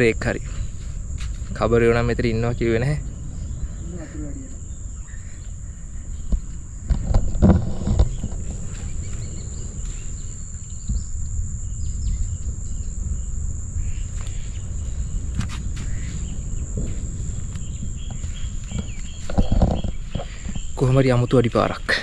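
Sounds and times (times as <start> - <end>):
insects droning: 0.0 - 22.0
low rumbling noise: 0.0 - 22.0
short insect chirps: 0.0 - 22.0.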